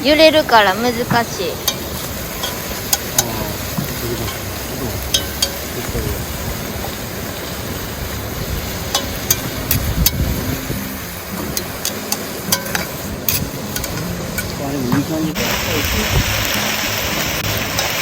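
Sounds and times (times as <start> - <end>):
meat sizzling in hot oil: 0.0 - 18.0
oil popping: 0.0 - 18.0.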